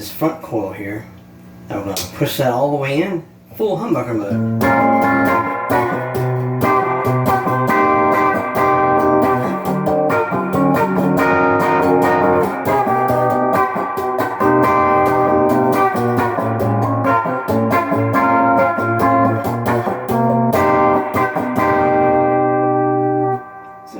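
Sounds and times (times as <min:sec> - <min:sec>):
overdriven electric guitar: 0:04.4 - 0:23.9.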